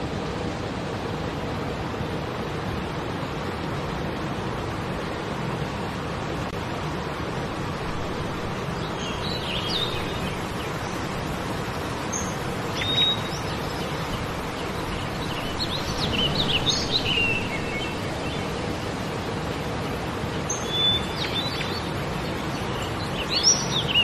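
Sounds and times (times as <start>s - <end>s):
river water rushing over rocks: 0.0s - 24.0s.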